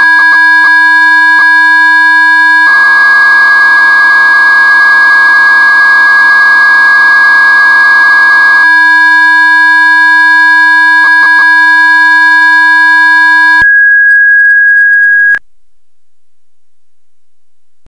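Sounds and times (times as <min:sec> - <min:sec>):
modem tones whistling: 0:00.0 - 0:15.4.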